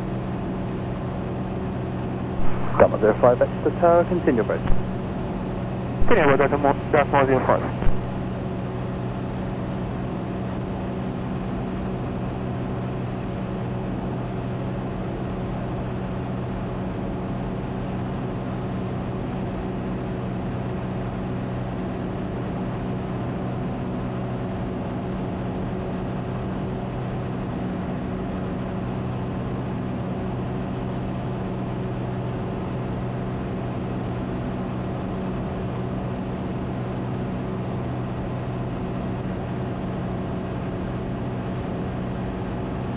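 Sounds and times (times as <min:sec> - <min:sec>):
light aircraft engine droning: 0:00.0 - 0:42.9.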